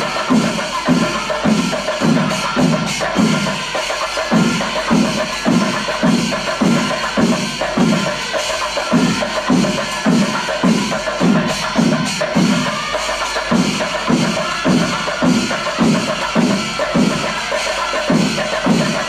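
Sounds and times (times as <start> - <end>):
drums keeping steady beat: 0.0 - 19.0
metallic cymbals: 0.0 - 19.0.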